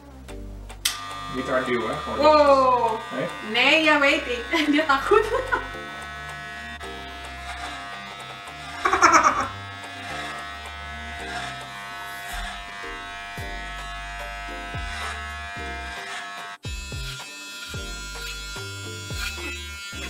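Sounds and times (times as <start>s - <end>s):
background music: 0.0s - 20.0s
electric hair clippers buzzing: 0.8s - 20.0s.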